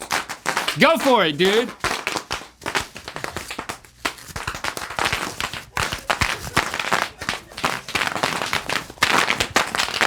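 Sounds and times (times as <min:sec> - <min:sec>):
bubble wrap popping: 0:00.0 - 0:10.0.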